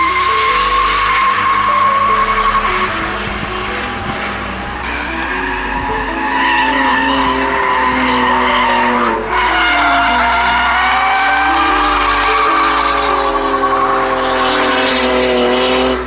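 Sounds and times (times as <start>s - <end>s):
tyres screeching: 0.0s - 14.8s
engines revving high: 0.0s - 16.0s.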